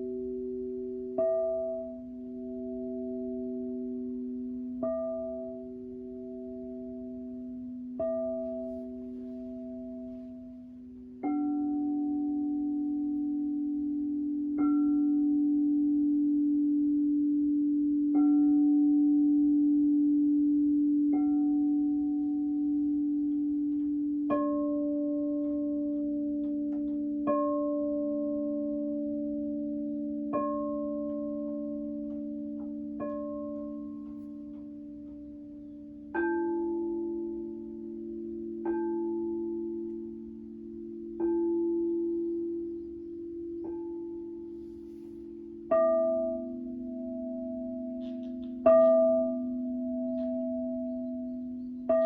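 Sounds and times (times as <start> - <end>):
crystal singing bowls ringing: 0.0 - 52.0.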